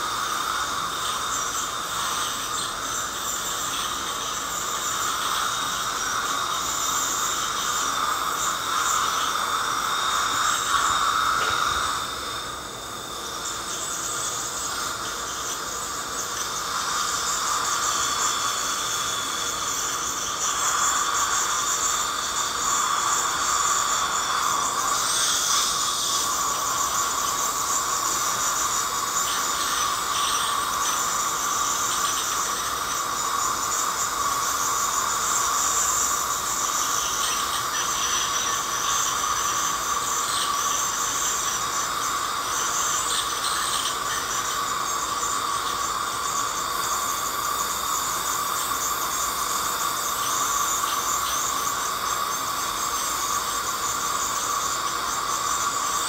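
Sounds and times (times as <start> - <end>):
dental scaler whine and hiss: 0.0 - 56.0.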